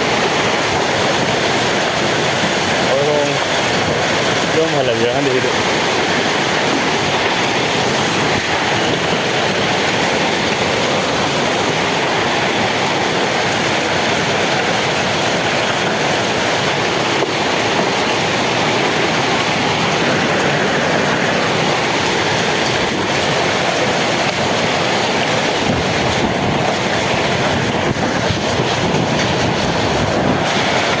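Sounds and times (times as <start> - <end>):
hailstones pelting: 0.0 - 31.0.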